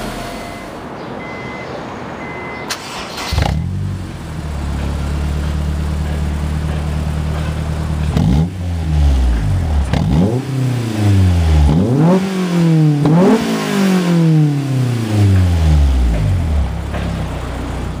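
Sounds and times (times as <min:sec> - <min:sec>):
car engine idling and revving: 0:00.0 - 0:01.6, 0:02.2 - 0:18.0.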